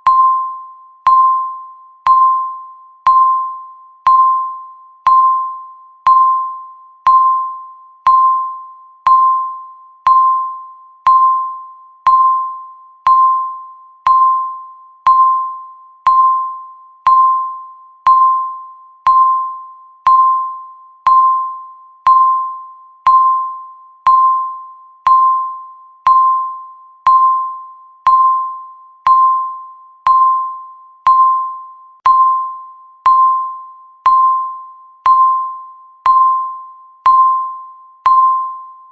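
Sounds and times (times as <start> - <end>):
timer beeping bell-like tone: 0.0 - 38.9.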